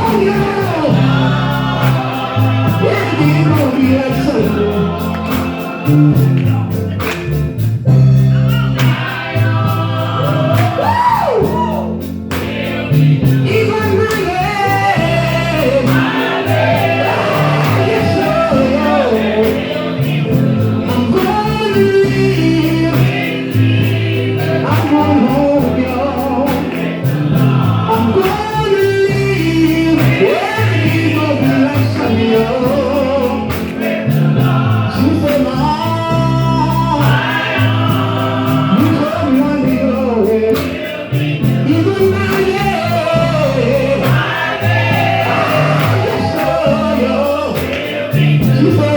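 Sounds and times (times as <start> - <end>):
band with bass line and beat: 0.0 - 48.9
gospel group singing: 0.0 - 48.9.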